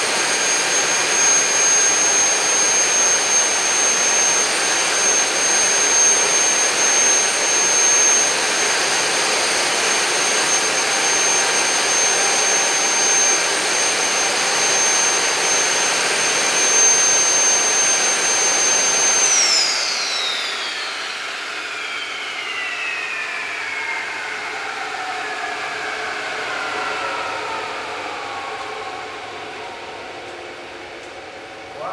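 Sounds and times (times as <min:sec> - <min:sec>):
turbojet engine whining: 0:00.0 - 0:31.9.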